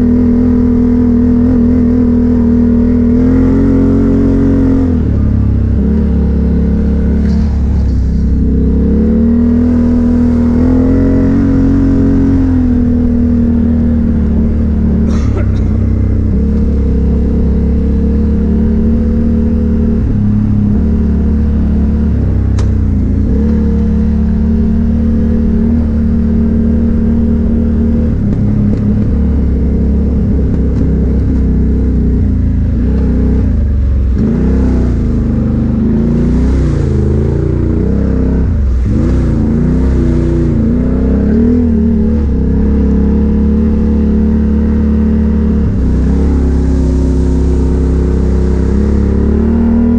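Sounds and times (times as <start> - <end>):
atv engine running and revving: 0.0 - 49.9.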